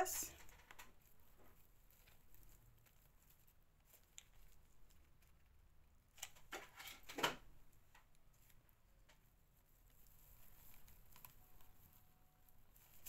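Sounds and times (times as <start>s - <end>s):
craft materials rustling: 0.0s - 13.0s.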